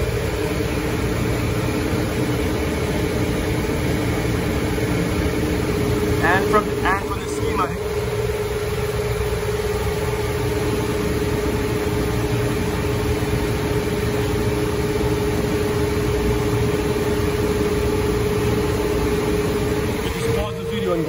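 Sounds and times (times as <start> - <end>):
hvac unit humming: 0.0 - 21.0.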